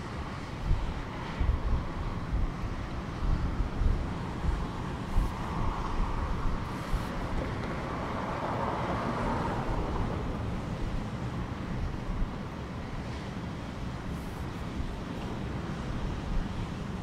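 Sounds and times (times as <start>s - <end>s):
sea surf washing: 0.0s - 17.0s
wind buffeting microphone: 0.0s - 17.0s.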